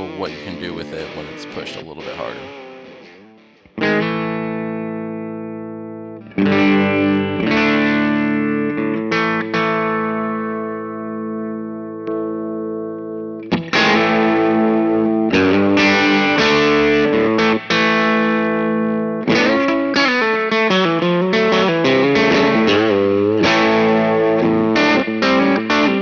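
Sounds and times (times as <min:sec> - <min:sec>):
overdriven electric guitar chords: 0:00.0 - 0:26.0.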